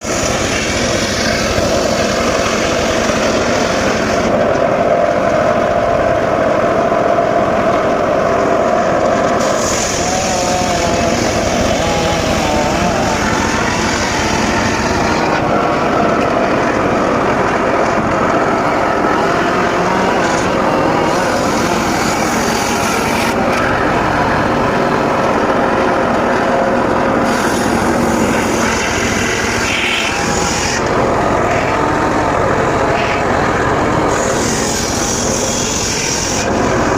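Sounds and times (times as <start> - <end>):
circular saw cutting wood: 0.0 - 5.6, 6.7 - 36.9.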